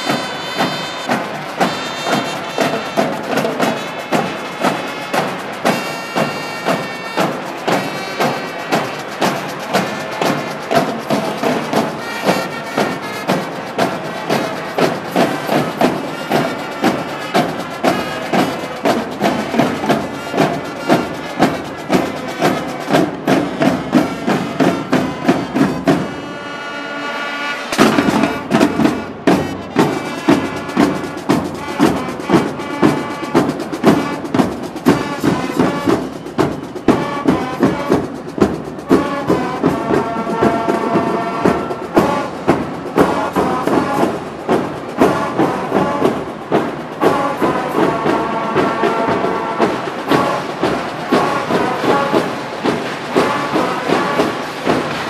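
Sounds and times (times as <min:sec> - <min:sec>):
snare and bass drums: 0:00.0 - 0:26.2, 0:27.7 - 0:55.0
saxophones and brass: 0:00.0 - 0:55.0.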